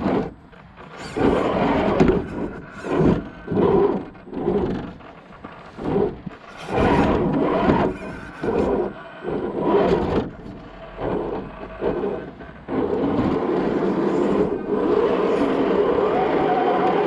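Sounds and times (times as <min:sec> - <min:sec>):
electric motor and gearbox running: 0:00.0 - 0:17.0.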